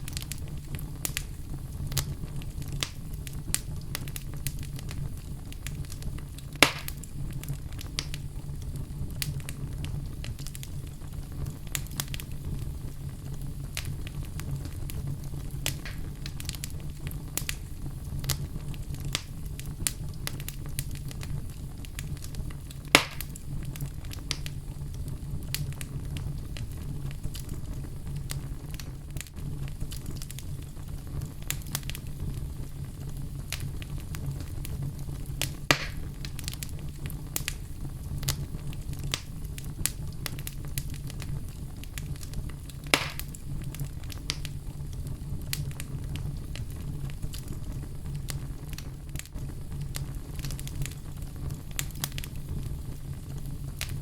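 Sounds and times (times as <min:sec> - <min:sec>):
loud fire pops: 0:00.0 - 0:54.0
low fire rumble: 0:00.0 - 0:54.0
wood fire crackling: 0:00.0 - 0:54.0.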